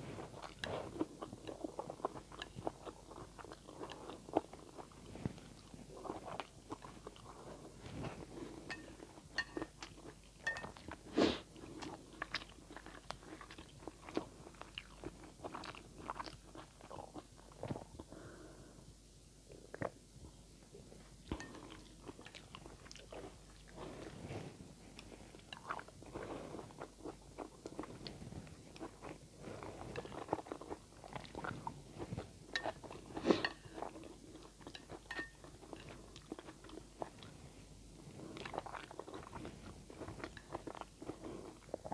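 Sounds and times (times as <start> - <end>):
person chewing noodles: 0.2 - 18.4, 21.3 - 24.2, 24.9 - 41.9.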